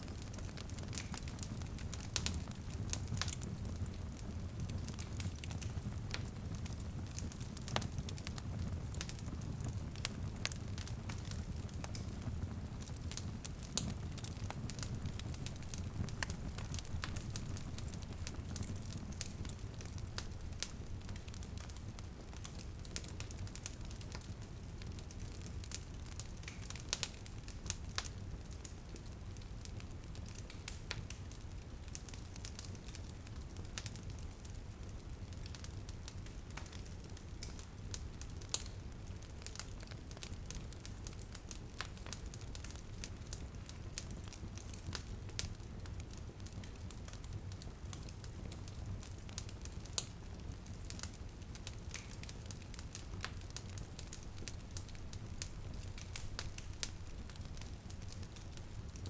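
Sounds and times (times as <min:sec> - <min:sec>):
wood fire crackling: 0:00.0 - 0:59.0
light drizzle pattering: 0:00.1 - 0:31.3, 0:36.4 - 0:59.0.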